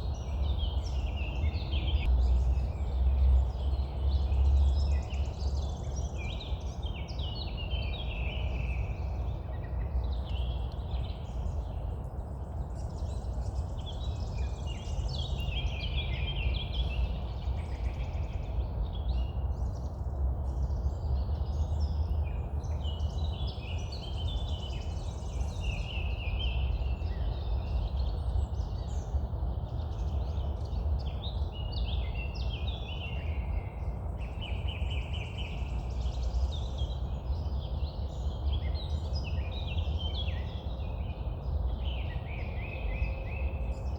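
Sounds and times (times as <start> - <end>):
songbirds singing: 0.0 - 43.9.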